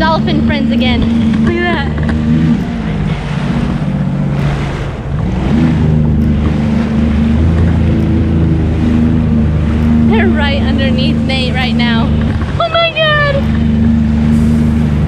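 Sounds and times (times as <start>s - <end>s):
jet ski engine running: 0.0s - 15.0s
water rushing against hull: 0.0s - 15.0s.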